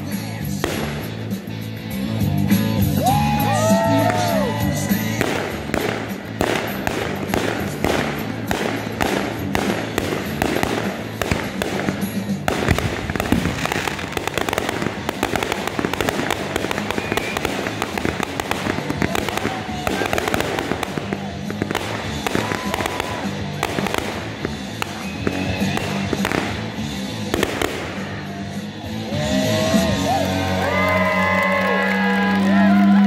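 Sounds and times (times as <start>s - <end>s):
fireworks shots and crackling: 0.0s - 1.9s, 2.5s - 29.0s
music playing: 0.0s - 33.0s.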